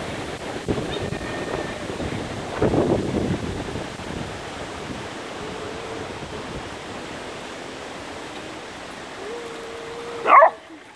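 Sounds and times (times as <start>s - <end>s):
wind on microphone: 0.0s - 10.7s.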